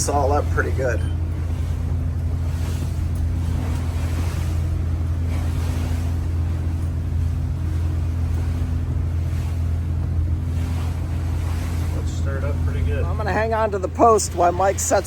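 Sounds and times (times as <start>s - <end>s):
boat engine droning: 0.0s - 15.0s
waves washing around boat: 0.0s - 15.0s
wind: 0.0s - 15.0s.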